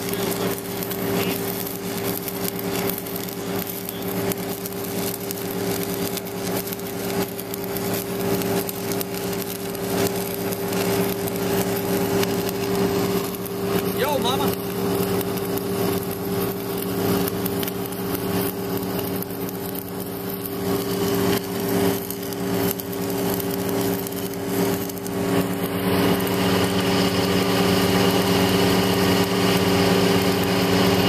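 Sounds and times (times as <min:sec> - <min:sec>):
engine droning: 0:00.0 - 0:31.0
welding arc crackling: 0:00.0 - 0:31.0.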